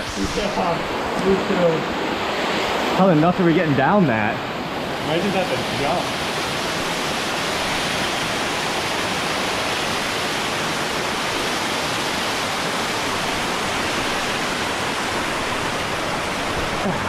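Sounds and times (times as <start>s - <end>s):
water rushing through rock gorge: 0.0s - 17.0s.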